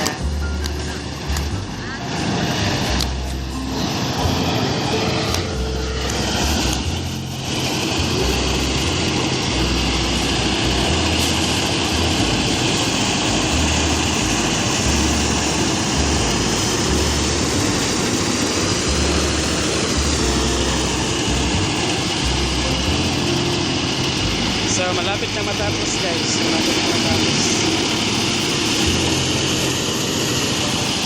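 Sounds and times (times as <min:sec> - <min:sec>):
harvesting machinery running: 0:00.0 - 0:31.0.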